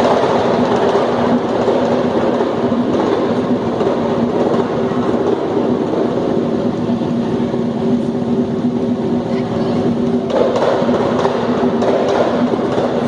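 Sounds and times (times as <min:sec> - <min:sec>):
fast percussion drumming: 0:00.0 - 0:13.0.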